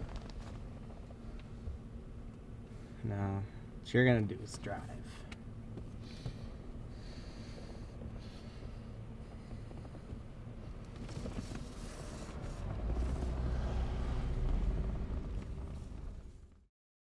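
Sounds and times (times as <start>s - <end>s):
car engine and road noise: 0.0s - 16.7s.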